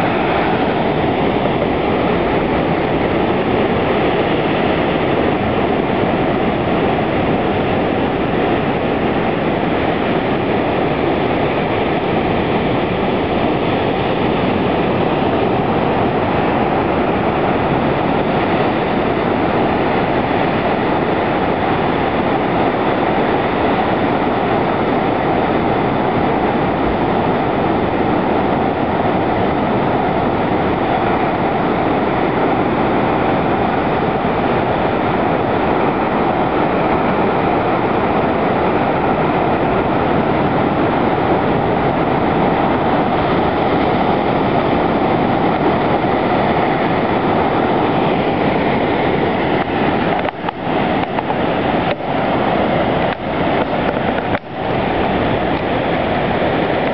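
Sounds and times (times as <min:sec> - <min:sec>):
surf breaking against rocks: 0:00.0 - 0:56.9.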